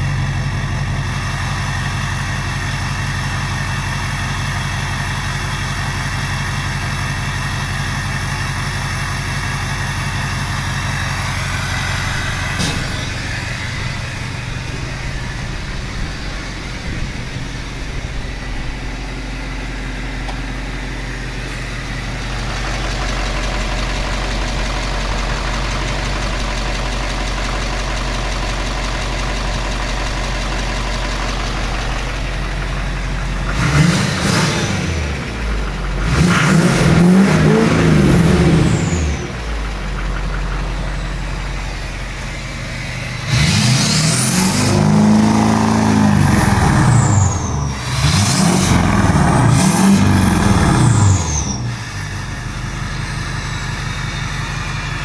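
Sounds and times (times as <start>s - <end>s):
diesel engine idling and revving: 0.0s - 55.0s.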